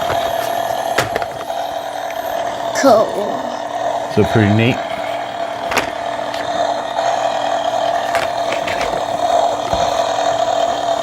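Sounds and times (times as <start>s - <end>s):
small motor whirring buzz: 0.0s - 11.0s.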